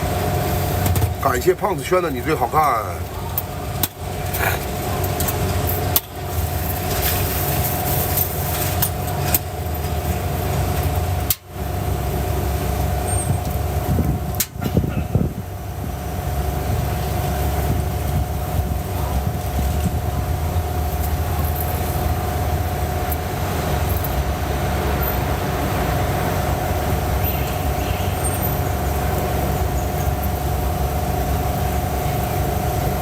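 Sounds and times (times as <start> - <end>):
constant hum: 0.0 - 33.0
low mechanical rumble: 0.0 - 33.0.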